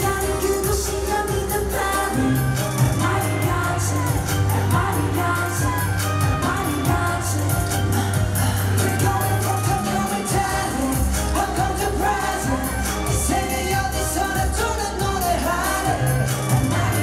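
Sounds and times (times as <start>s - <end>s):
bass line and beat: 0.0s - 17.0s
pop song with sung vocals: 0.0s - 17.0s.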